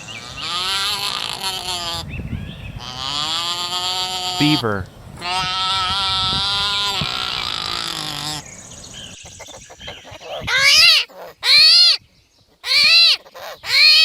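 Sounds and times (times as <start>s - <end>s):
beaver whining: 0.0s - 8.5s, 9.3s - 12.0s, 12.6s - 14.0s.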